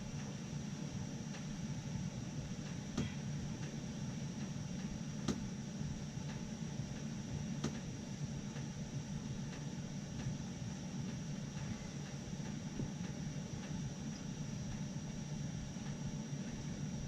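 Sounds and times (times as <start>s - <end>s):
boiler and pump humming: 0.0s - 17.0s.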